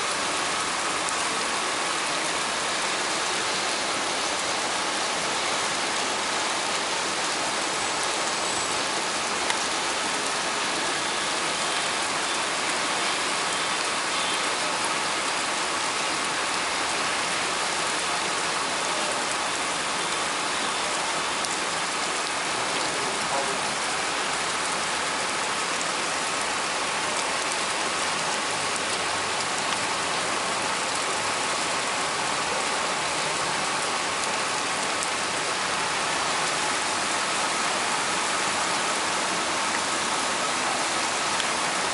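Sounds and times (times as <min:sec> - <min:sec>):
heavy rain splashing: 0:00.0 - 0:41.9.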